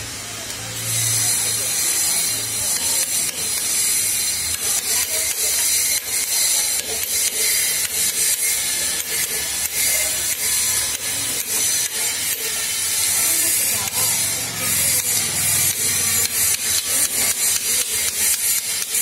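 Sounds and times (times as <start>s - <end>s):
hammer striking chisel on granite: 1.2s - 19.0s.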